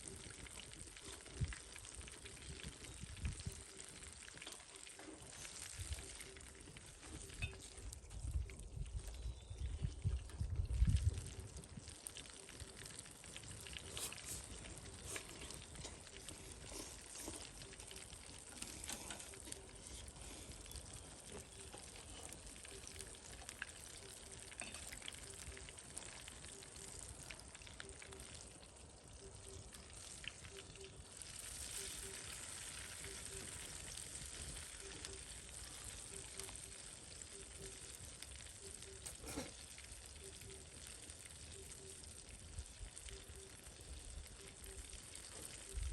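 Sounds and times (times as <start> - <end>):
oil pops and crackles: 0.0 - 41.6
chicken sizzling in hot oil: 0.0 - 45.9.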